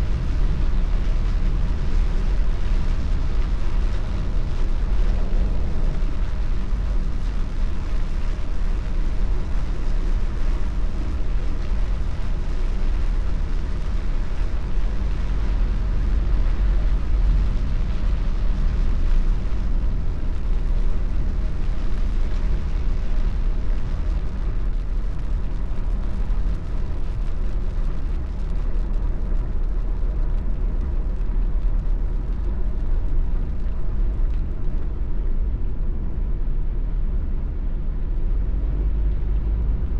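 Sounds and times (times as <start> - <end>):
tyre hiss on wet road: 0.0 - 35.2
car road rumble inside cabin: 0.0 - 39.9.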